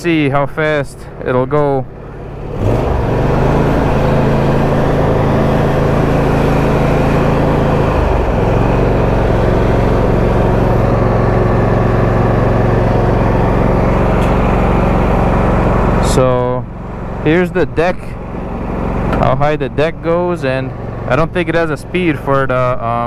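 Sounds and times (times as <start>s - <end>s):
lawn tractor engine running: 0.0s - 23.0s.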